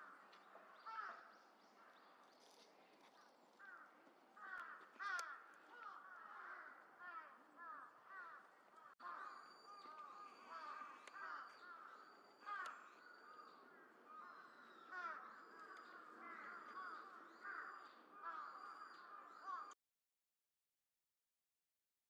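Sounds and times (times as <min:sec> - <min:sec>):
faint bird calls: 0:00.0 - 0:19.8.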